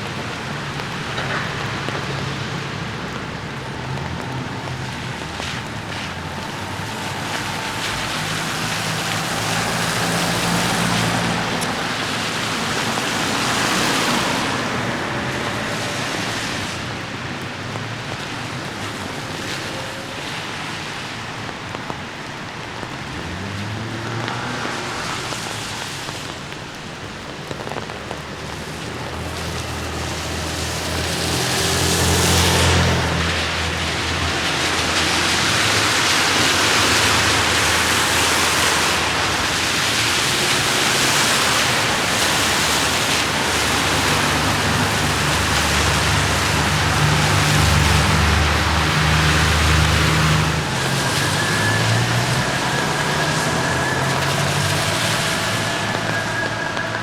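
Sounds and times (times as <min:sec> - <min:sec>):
cars passing on wet road: 0:00.0 - 0:57.0
rain on hard surfaces: 0:00.0 - 0:57.0.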